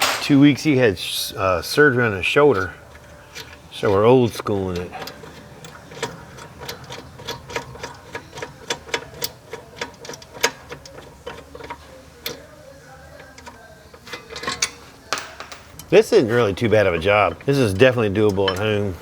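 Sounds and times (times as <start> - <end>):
hand wrench clicking: 2.4 - 18.9.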